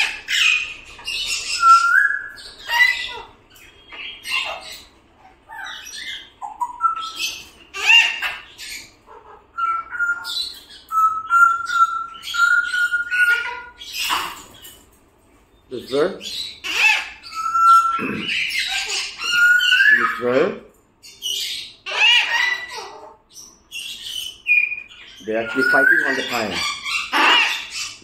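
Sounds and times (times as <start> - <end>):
parrots squawking: 0.0 - 15.0, 15.7 - 28.0.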